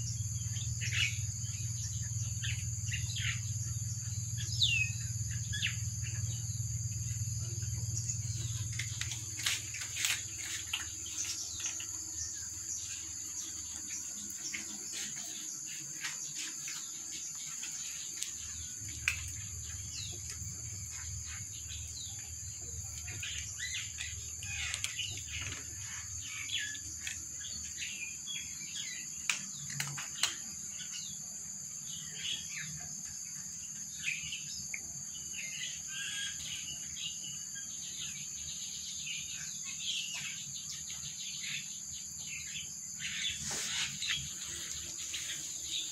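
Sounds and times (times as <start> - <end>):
bird chirps: 0.0 - 45.9
insect drone: 0.0 - 45.9.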